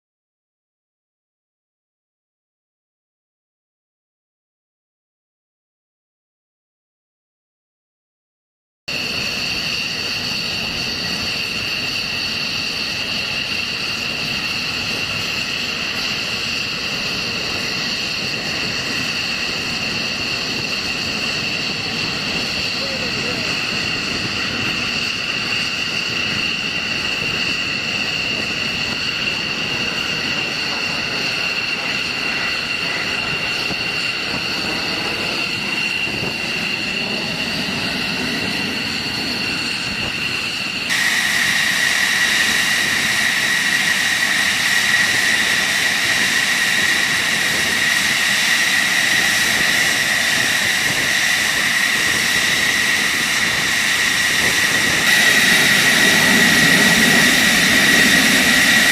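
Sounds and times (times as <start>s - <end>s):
jet engine whining: 8.9s - 58.9s.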